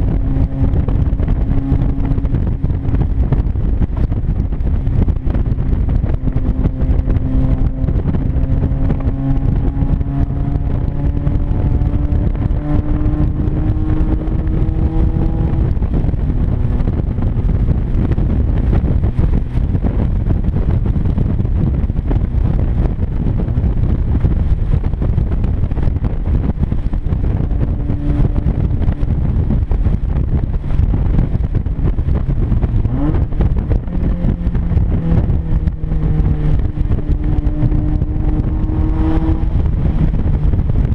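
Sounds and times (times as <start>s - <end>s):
loud car engine at speed: 0.0s - 40.9s
wind and road noise: 0.0s - 40.9s.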